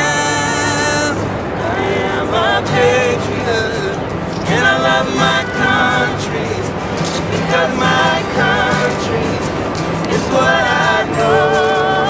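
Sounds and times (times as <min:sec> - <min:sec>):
person singing: 0:00.0 - 0:12.0.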